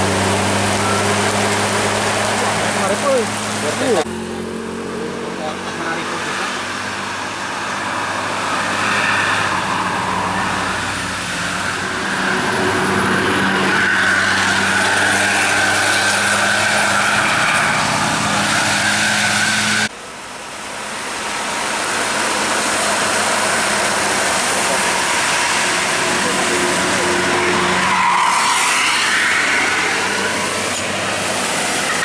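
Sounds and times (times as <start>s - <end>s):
tyres hissing on wet road: 0.0s - 4.1s, 5.6s - 32.0s
bus engine hum: 0.0s - 32.0s.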